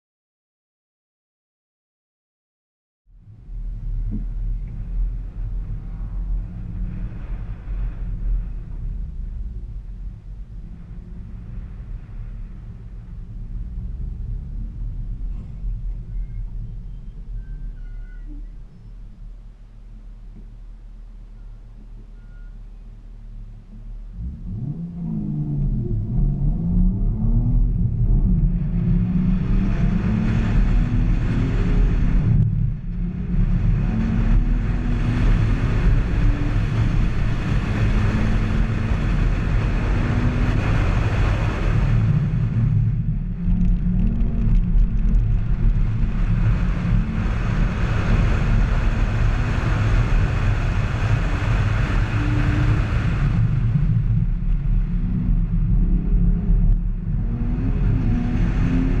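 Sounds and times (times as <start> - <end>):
car engine accelerating: 3.2 - 59.0.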